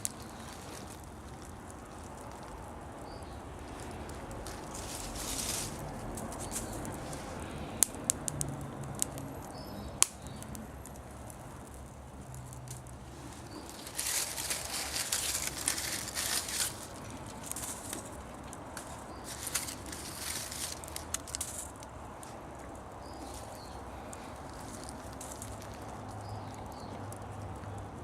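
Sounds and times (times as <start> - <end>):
leaf bonfire crackling: 0.0 - 28.0.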